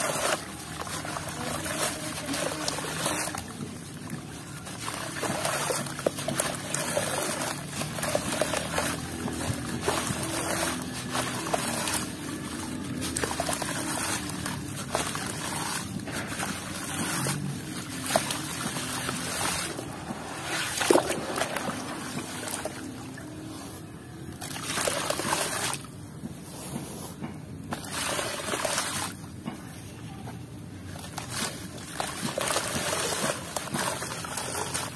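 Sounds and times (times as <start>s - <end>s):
hands squishing wet mush: 0.0s - 25.9s, 30.8s - 34.9s
water sloshing and splashing: 0.0s - 34.9s.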